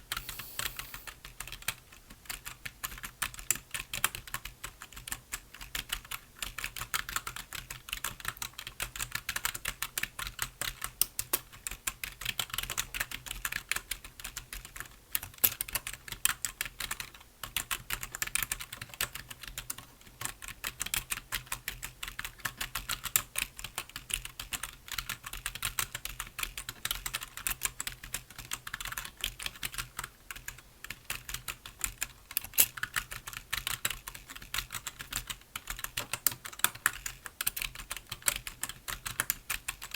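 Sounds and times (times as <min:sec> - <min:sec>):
fast typing on computer keyboard: 0:00.1 - 0:39.9.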